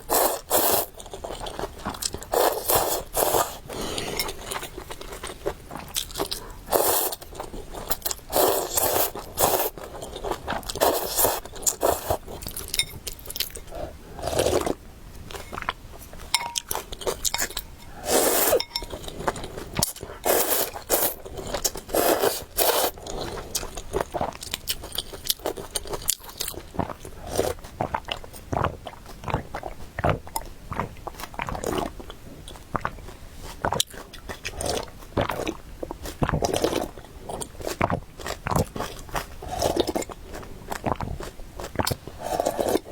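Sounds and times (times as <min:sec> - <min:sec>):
person crunching and chewing food: 0:00.0 - 0:42.9.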